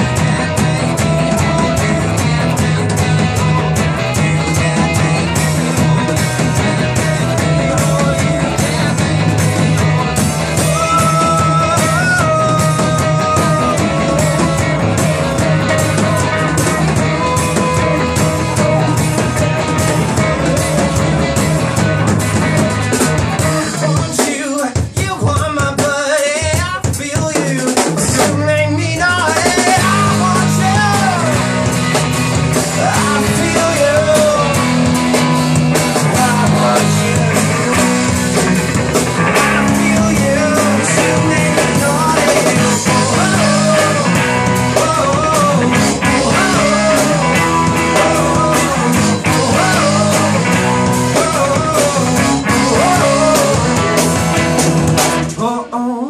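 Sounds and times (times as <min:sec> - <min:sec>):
person singing: 0:00.0 - 0:21.8, 0:22.6 - 0:31.8, 0:32.4 - 0:54.6, 0:55.2 - 0:56.0
live rock band playing: 0:00.0 - 0:55.9.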